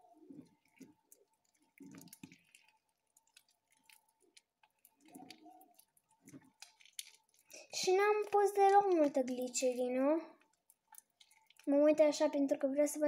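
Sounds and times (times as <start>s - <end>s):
slime squelching and clicking: 0.1s - 12.6s.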